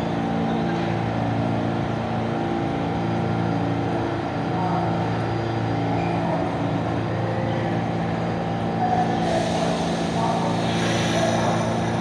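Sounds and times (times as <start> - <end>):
station rumble: 0.0 - 12.0
subway train humming: 0.0 - 12.0.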